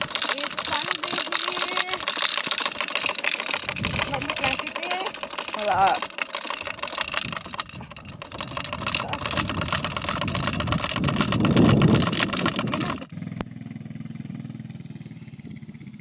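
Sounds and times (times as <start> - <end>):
farm bike engine running: 0.0 - 16.0.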